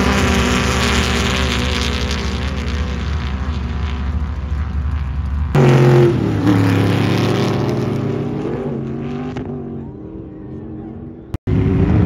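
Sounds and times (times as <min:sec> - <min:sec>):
sand car engine running: 0:00.0 - 0:12.0.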